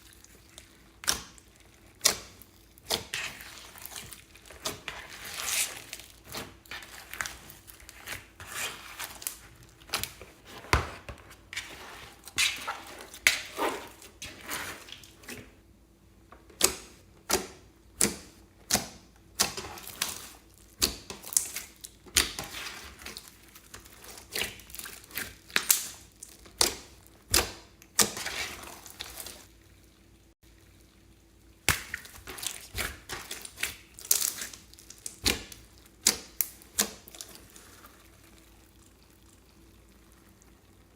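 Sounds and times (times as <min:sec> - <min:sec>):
slime being squished: 0:00.0 - 0:15.5, 0:16.6 - 0:29.5, 0:31.5 - 0:39.4.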